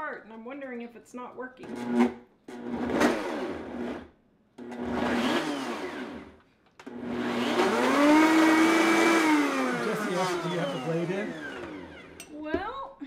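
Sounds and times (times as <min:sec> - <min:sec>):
blender blending frozen fruit: 0:01.6 - 0:12.3.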